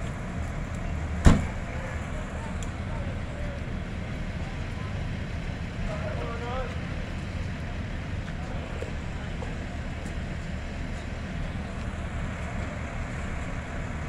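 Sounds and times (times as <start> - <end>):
diesel engines rumbling: 0.0 - 14.0.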